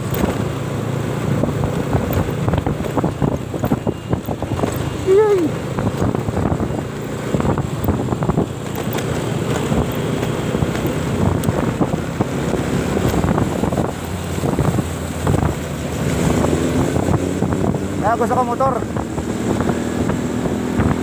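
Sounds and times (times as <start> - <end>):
motorcycle engine running: 0.0 - 21.0
traffic road noise: 0.0 - 21.0
wind buffeting microphone: 0.0 - 21.0.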